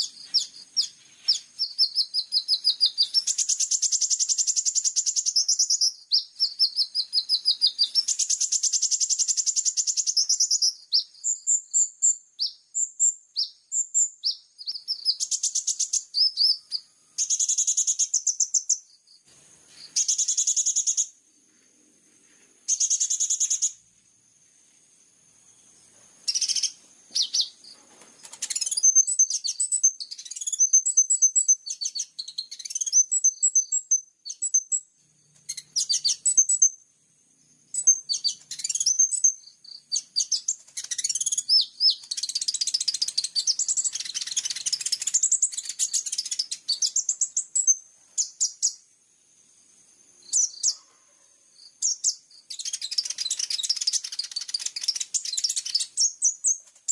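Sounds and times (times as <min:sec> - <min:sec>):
bird chirping song: 0:00.0 - 0:56.9.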